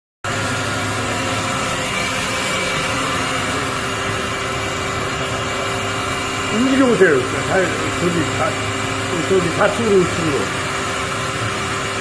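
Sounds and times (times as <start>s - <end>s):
machine hum with constant tones: 0.3s - 12.0s.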